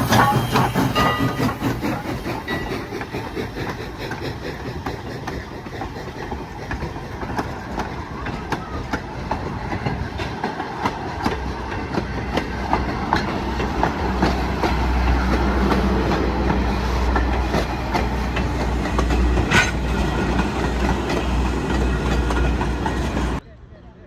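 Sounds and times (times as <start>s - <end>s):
train wheels clickety-clack: 0.0s - 23.4s.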